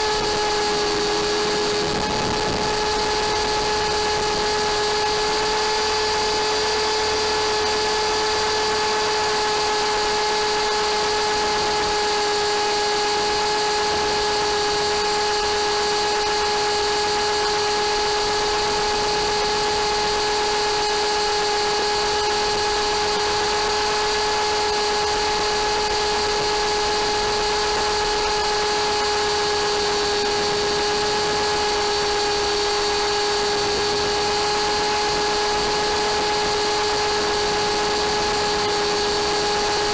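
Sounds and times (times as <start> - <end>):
electric motor high-pitched whine: 0.0 - 39.9.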